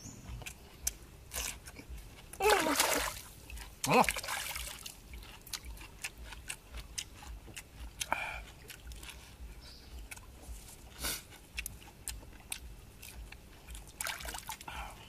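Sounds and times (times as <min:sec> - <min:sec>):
crisp crunches of chewing: 0:00.2 - 0:02.6, 0:03.2 - 0:15.0.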